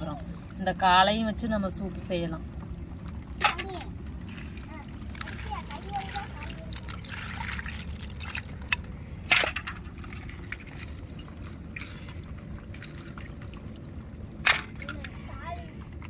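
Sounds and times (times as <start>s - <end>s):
water sloshing and dripping: 0.0s - 16.0s.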